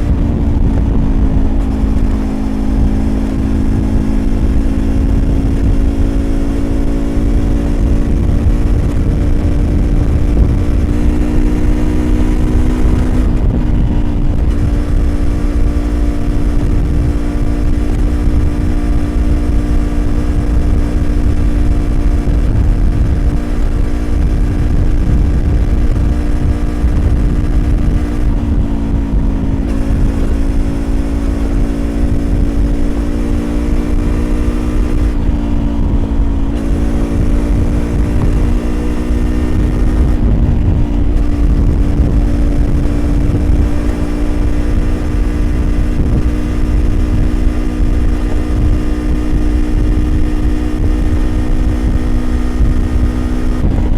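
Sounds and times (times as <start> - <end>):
low wind rumble: 0.0 - 53.9
motorcycle engine at steady revs: 0.0 - 53.9.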